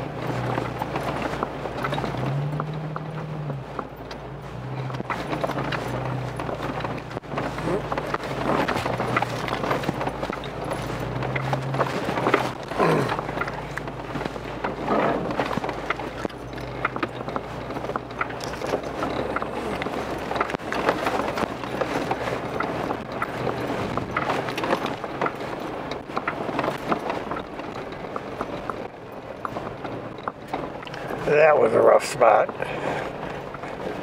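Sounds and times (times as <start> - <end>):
engine running low: 0.0 - 34.0
tyres crunching over rocks: 0.0 - 34.0.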